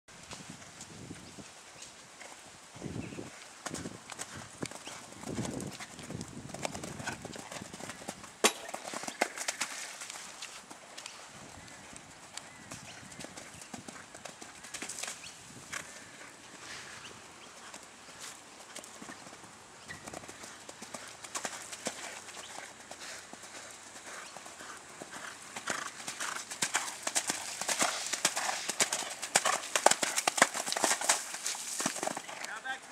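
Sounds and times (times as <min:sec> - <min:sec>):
horse hoofbeats on sand: 0:00.2 - 0:16.6, 0:17.4 - 0:32.9.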